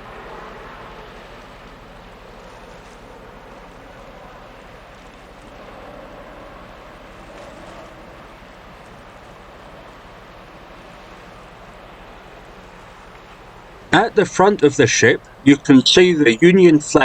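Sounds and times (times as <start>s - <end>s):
ship engine drone: 0.0s - 17.0s.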